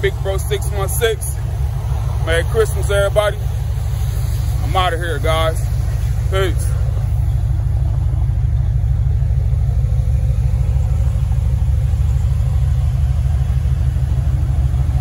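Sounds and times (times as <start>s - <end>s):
car engine rumbling: 0.0s - 15.0s
tires spinning: 0.0s - 15.0s.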